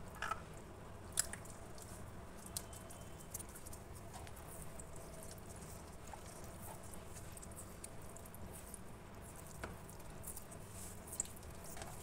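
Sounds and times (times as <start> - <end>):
wet squishing of slime: 0.1 - 12.0
small clicks and crackles: 1.2 - 12.0.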